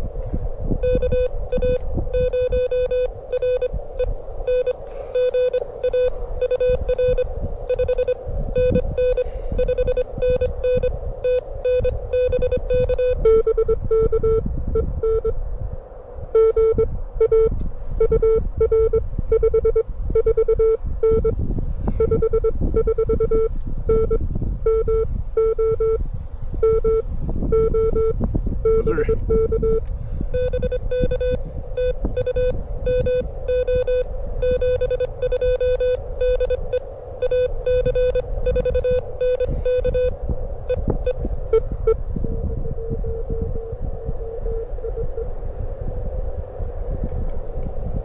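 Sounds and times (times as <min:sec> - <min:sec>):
wind rumble on microphone: 0:00.0 - 0:48.0
morse code tones: 0:00.8 - 0:15.4, 0:16.4 - 0:21.4, 0:22.0 - 0:26.0, 0:26.6 - 0:42.0, 0:42.7 - 0:45.3.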